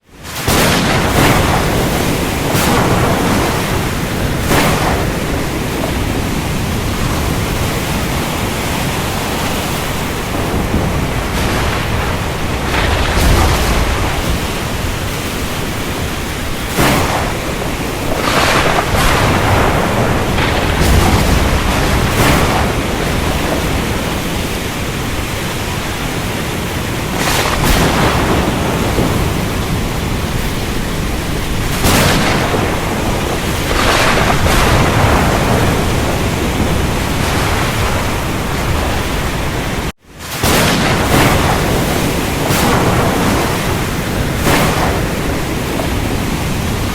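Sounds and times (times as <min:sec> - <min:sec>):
heavy rain hiss: 0:00.0 - 0:46.9
thunder cracks and rumbling: 0:00.2 - 0:46.9.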